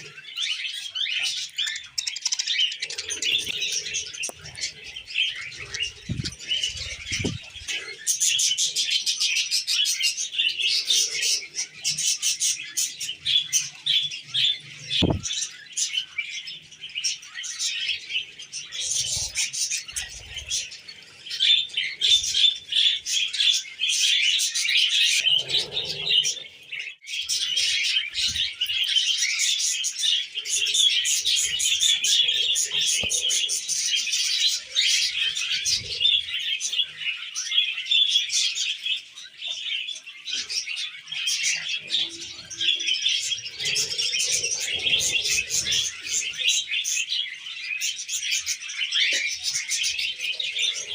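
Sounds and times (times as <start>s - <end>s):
budgies chattering: 0.0s - 50.9s.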